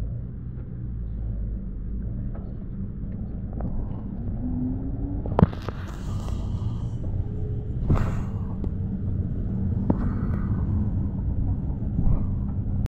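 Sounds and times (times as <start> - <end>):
engine and road rumble: 0.0 - 12.9.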